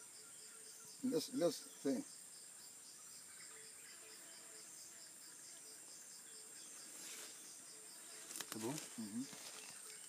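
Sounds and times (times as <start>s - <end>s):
insect chirping: 0.0s - 10.0s
insects buzzing: 0.0s - 10.0s.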